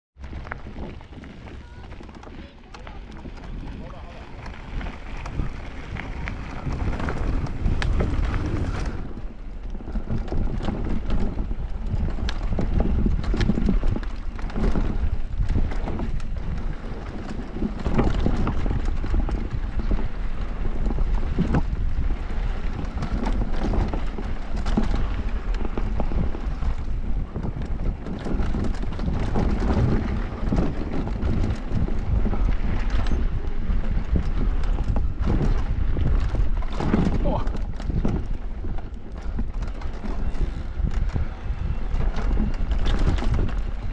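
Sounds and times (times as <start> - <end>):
bike rattling and knocking: 0.2 - 43.9
tyres rumbling on dirt: 0.2 - 43.9
wind on microphone: 0.2 - 43.9.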